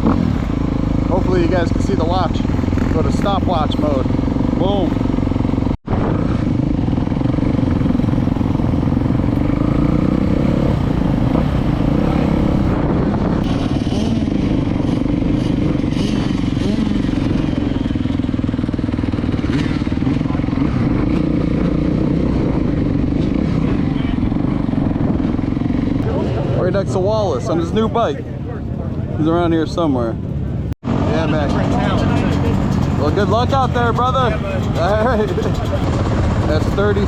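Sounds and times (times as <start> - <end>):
dirt bike engine at low revs: 0.0 - 27.9, 30.2 - 37.0.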